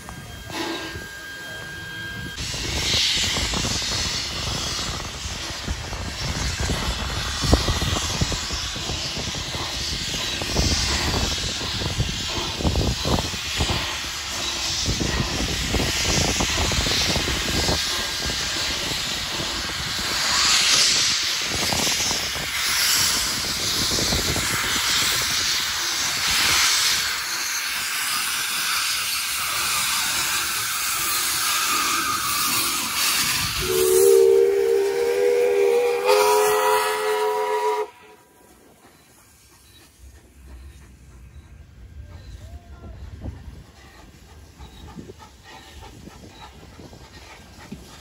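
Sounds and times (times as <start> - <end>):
steam hissing from locomotive: 0.0 - 48.0.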